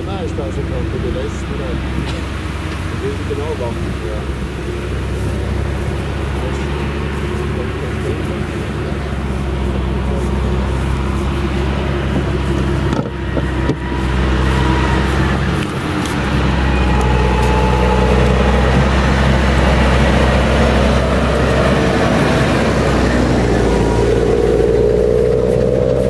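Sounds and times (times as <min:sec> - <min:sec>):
distant forage harvester working: 0:00.0 - 0:26.0
tractor diesel engine running: 0:00.0 - 0:26.0.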